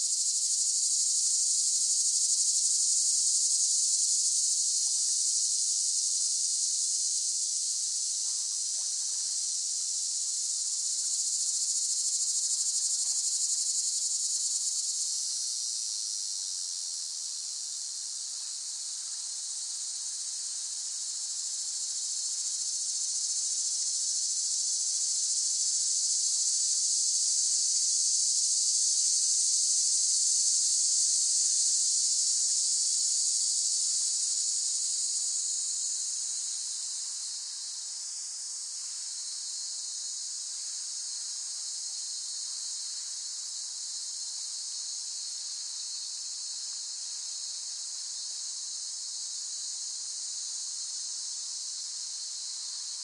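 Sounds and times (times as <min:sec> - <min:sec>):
cicadas buzzing: 0:00.0 - 0:17.2, 0:18.1 - 0:53.0.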